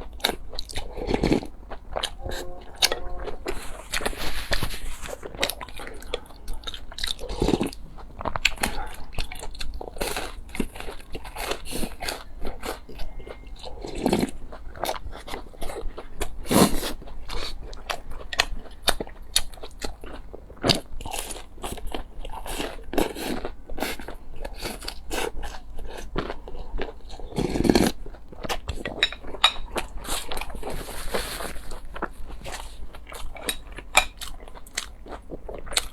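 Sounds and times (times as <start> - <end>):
crunchy chewing: 0.0 - 35.9.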